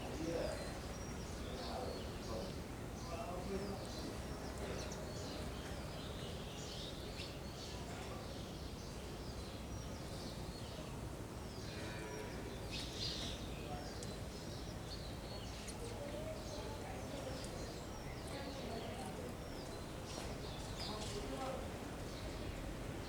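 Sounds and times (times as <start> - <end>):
sparrows chirping: 0.1 - 23.0.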